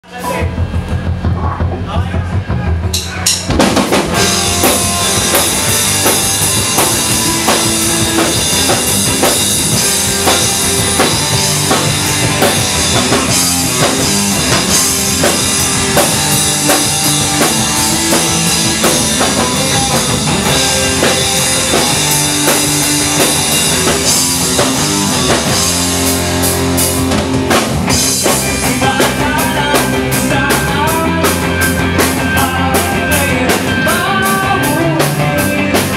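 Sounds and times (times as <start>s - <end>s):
live rock band playing: 0.0s - 35.9s.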